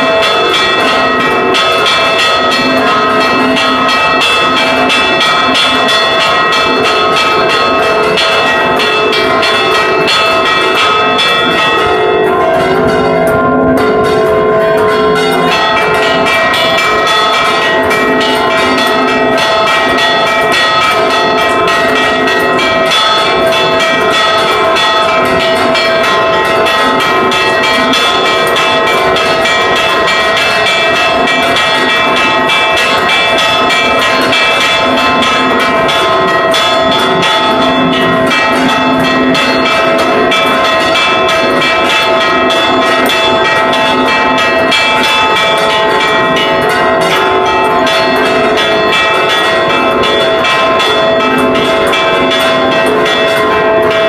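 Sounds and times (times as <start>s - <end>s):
church bells ringing rapidly: 0.0s - 54.0s.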